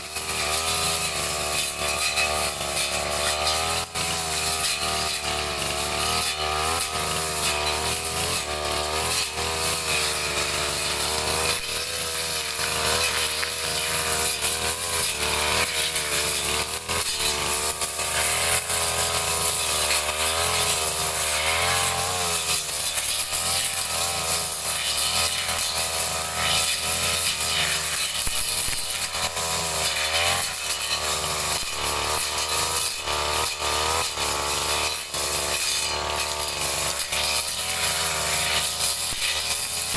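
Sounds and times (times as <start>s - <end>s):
petrol brush cutter running: 0.0s - 39.9s.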